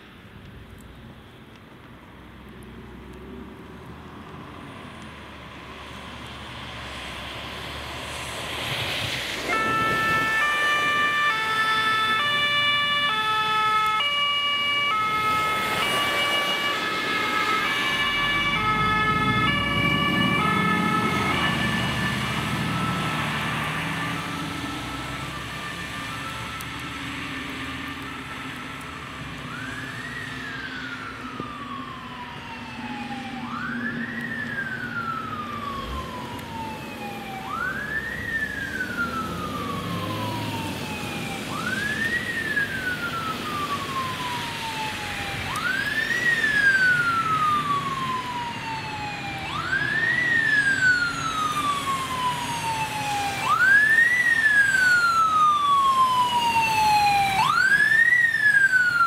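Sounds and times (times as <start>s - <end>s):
fire engine siren: 4.5s - 59.0s.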